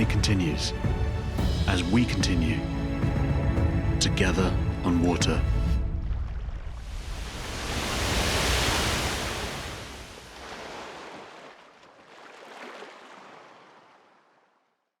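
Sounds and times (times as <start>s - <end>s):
sea waves rushing: 0.0s - 14.4s.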